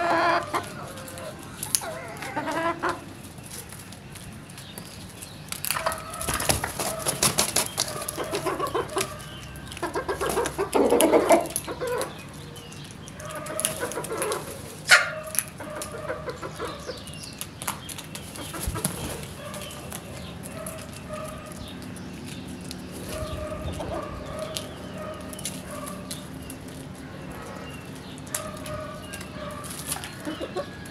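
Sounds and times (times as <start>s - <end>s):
birds making harsh calls: 0.0s - 30.9s.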